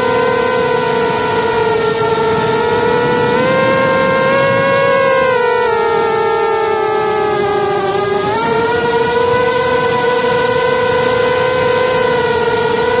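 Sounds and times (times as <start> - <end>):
drone propellers buzzing: 0.0 - 13.0
high motor whine: 0.0 - 13.0.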